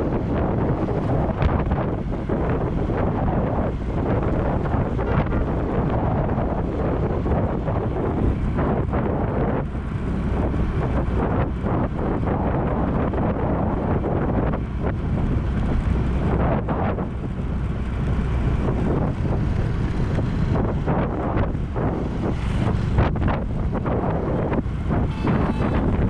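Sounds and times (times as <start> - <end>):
vehicle noise: 0.0 - 26.0
wind buffeting microphone: 0.0 - 26.0.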